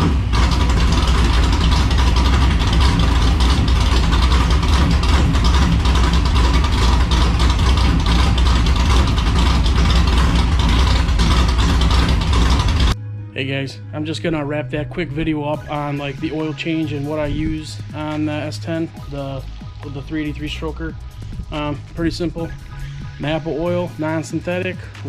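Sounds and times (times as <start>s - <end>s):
car engine idling: 0.0s - 13.0s, 14.3s - 25.0s.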